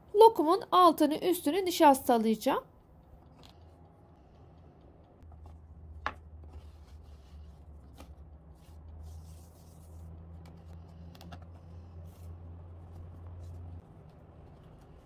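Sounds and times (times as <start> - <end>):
steady low hum: 2.6 - 15.0.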